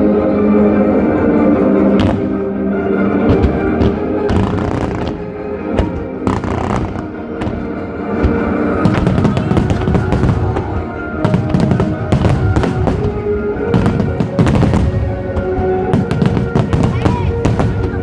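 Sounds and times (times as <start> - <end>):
music playing: 0.0 - 18.0
fireworks bursting: 3.2 - 18.0.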